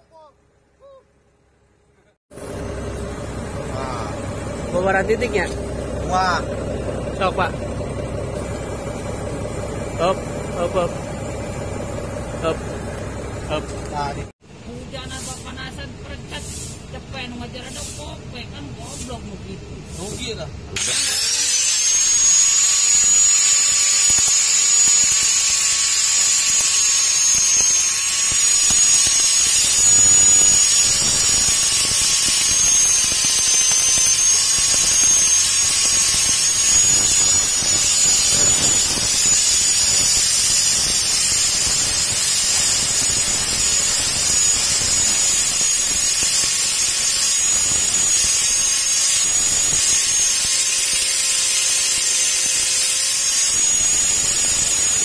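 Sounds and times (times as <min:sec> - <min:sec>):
angle grinder grinding steel: 0:02.3 - 0:14.3, 0:19.9 - 0:55.0.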